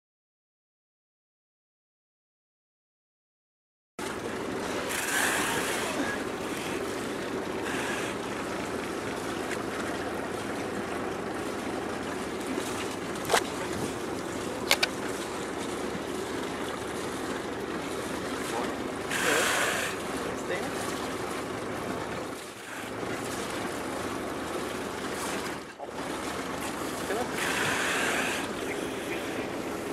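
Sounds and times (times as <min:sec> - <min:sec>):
water noise: 0:04.0 - 0:29.9
wind: 0:04.0 - 0:29.9.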